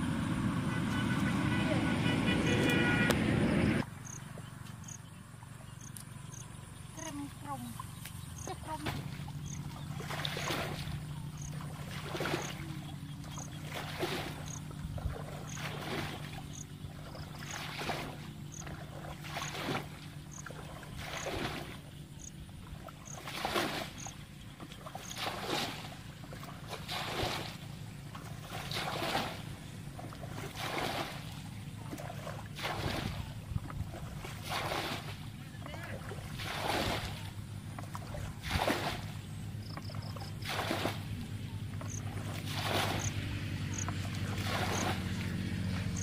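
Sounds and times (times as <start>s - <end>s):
bucket scooping water: 7.0s - 46.0s.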